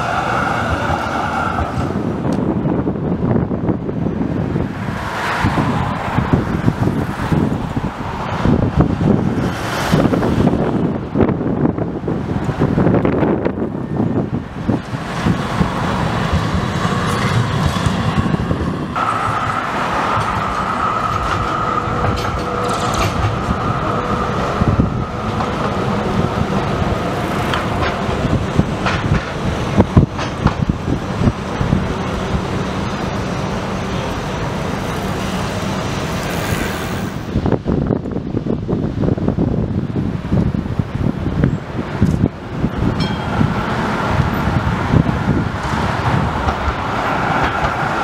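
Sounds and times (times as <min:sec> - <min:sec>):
city street traffic: 0:00.0 - 0:48.0
tram wheels rumbling on rail: 0:00.0 - 0:48.0
wind buffeting microphone: 0:00.0 - 0:48.0.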